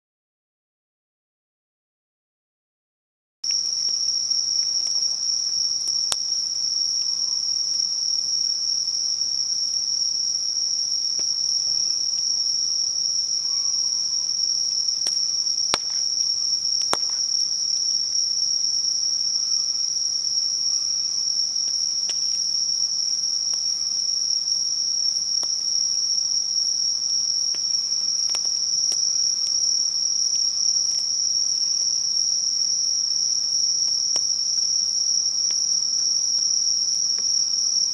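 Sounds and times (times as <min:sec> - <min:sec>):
bonfire crackling: 0:03.5 - 0:37.9
insects trilling: 0:03.5 - 0:37.9.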